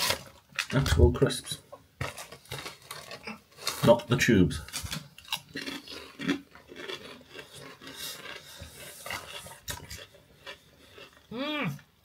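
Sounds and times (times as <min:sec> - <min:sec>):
crisps crunched by mouth: 0:00.0 - 0:11.8.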